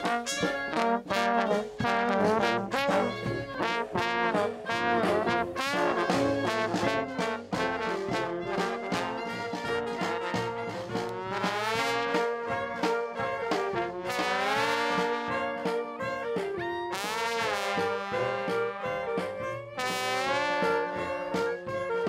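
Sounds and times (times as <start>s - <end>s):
bass drum beat: 0.0s - 22.0s
brass band playing: 0.0s - 22.0s
trombones: 0.0s - 22.0s.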